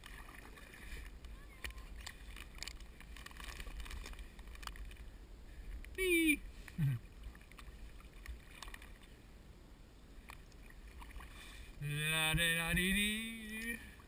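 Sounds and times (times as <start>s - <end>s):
paddle in water: 0.0s - 14.0s.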